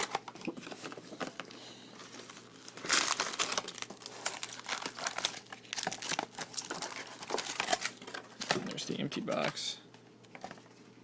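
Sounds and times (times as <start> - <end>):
plastic wrappers crinkling: 0.0 - 9.7.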